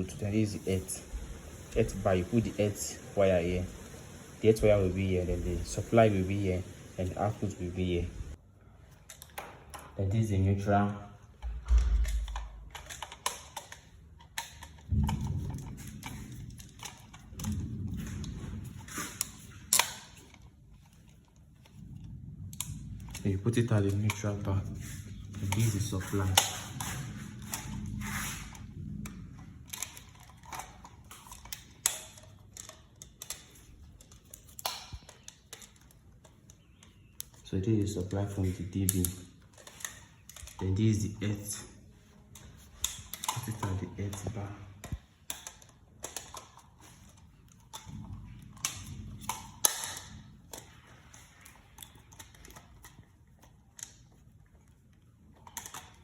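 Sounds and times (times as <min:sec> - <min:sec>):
wires rustling and scraping: 0:00.0 - 0:56.0
light clicks of wire and tools: 0:08.9 - 0:56.0.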